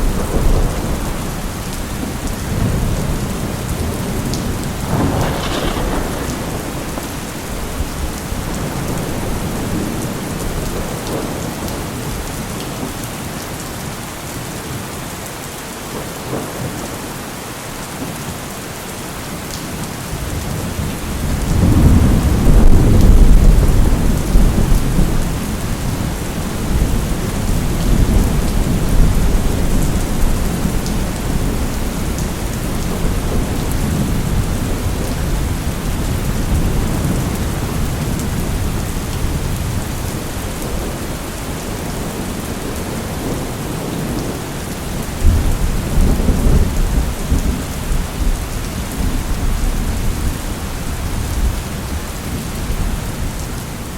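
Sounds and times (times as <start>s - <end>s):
thunder rumbling: 0.0s - 12.3s, 20.2s - 53.0s
heavy rain: 0.0s - 53.9s.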